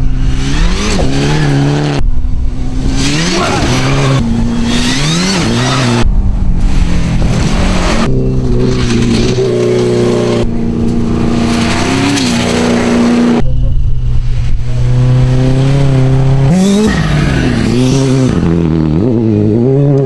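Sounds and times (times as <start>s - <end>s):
rally car engine at high revs: 0.0s - 13.5s, 14.5s - 20.0s.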